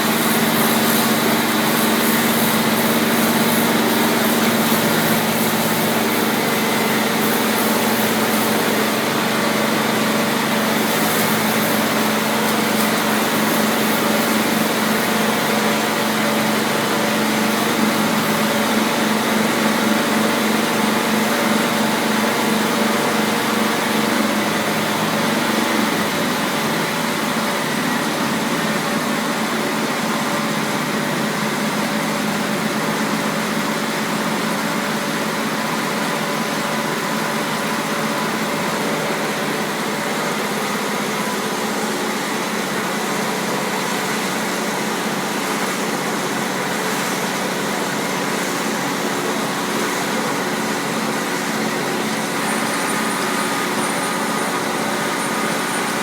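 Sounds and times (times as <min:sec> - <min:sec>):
log-rounding machine humming: 0:00.0 - 0:56.0.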